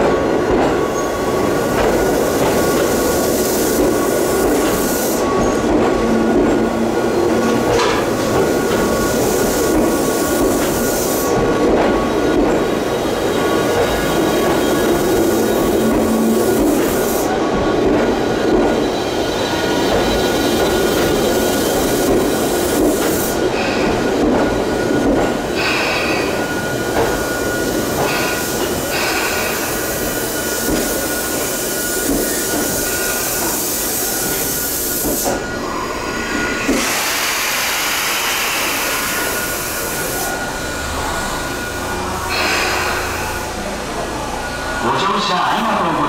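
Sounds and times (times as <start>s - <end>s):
rumble of wheels on rail: 0.0s - 46.0s
train wheels squealing: 0.7s - 45.6s.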